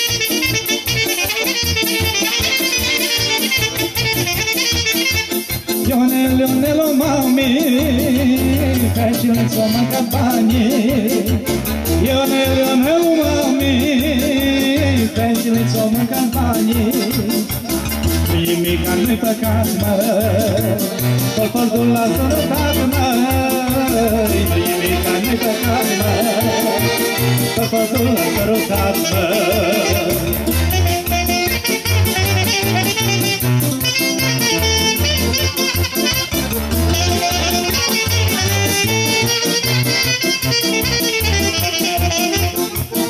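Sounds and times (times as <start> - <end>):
live folk dance band: 0.0 - 43.0.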